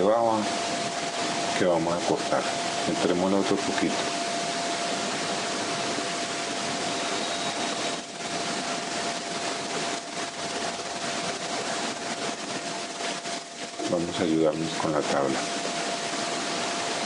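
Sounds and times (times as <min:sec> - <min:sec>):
machine hiss: 0:00.0 - 0:17.0
thin machine whine: 0:00.0 - 0:17.0.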